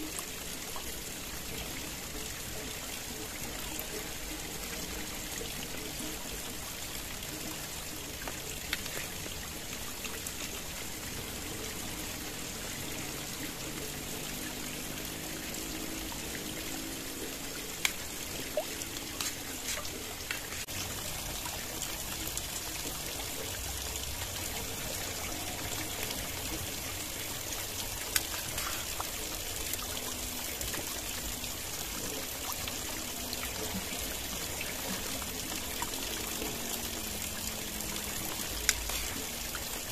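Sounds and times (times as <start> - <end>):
trickling stream: 0.0 - 39.9.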